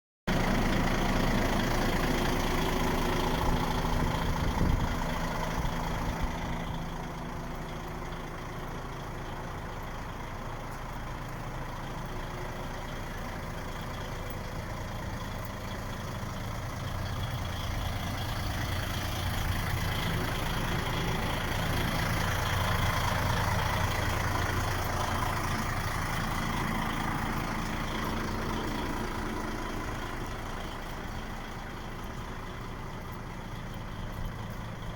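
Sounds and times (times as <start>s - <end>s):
diesel truck engine idling: 0.3s - 34.9s.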